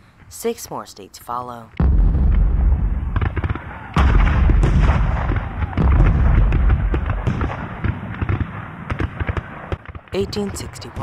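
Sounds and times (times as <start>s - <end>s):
cannon booms and rumble: 1.8s - 10.6s
gunshots crackling: 1.8s - 11.0s.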